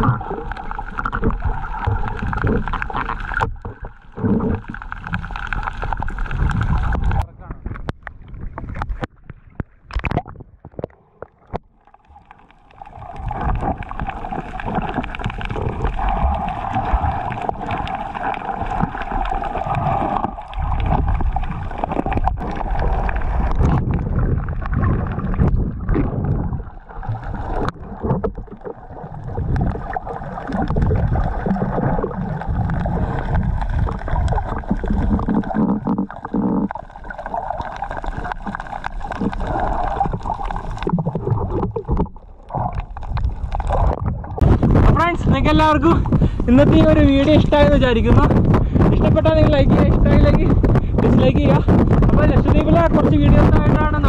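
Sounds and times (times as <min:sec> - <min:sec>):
underwater water sloshing: 0:00.0 - 0:54.0.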